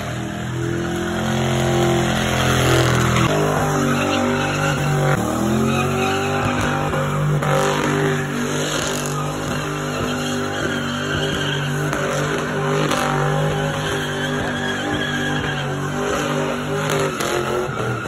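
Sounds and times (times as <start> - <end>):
car engines revving high: 0.0 - 18.0
tyres squealing on concrete: 0.2 - 18.0.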